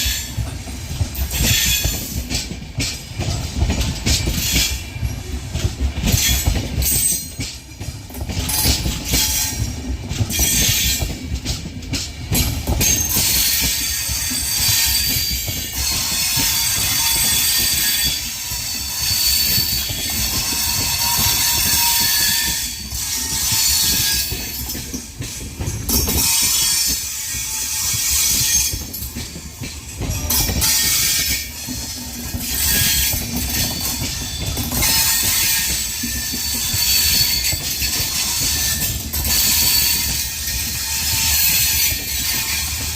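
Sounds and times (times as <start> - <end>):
train wheels squealing: 0.0 - 11.3, 12.3 - 42.9
train rumble and clatter: 0.0 - 42.9.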